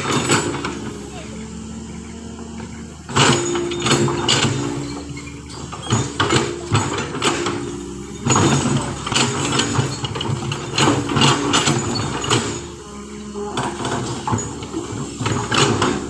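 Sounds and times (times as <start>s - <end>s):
sharp metallic clanks and knocks: 0.0s - 1.0s, 2.3s - 16.0s
engine running steadily: 0.0s - 16.0s.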